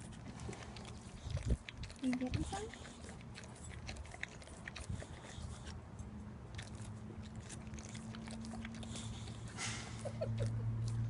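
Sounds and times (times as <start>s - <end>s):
pet crunching food: 0.0s - 11.0s.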